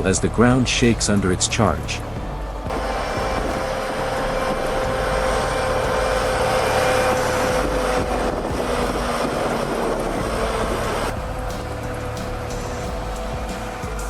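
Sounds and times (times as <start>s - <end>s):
steady whine: 0.0s - 14.0s
truck engine under load: 0.0s - 14.0s.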